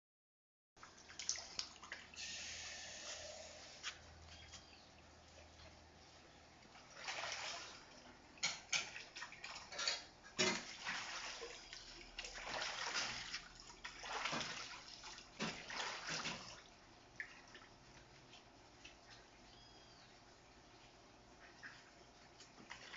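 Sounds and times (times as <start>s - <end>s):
water splashing and sloshing: 0.8s - 19.6s, 20.2s - 22.9s.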